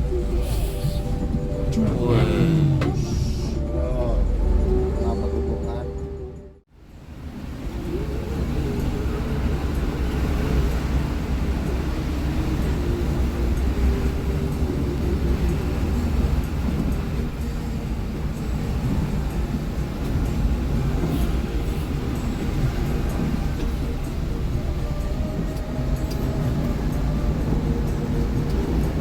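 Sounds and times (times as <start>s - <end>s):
bus diesel engine rumble: 0.0s - 29.0s.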